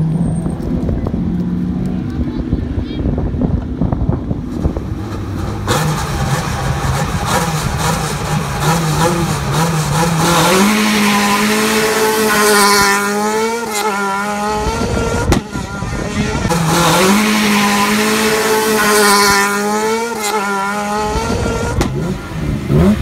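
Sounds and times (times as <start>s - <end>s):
rally car engine revving: 0.0s - 23.0s
car accelerating hard: 3.2s - 23.0s.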